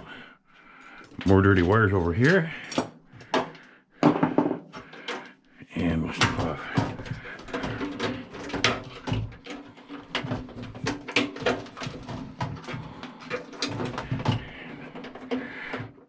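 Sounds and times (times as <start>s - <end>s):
metal parts clicking and clattering: 0.9s - 3.6s, 4.7s - 5.3s, 6.1s - 16.0s.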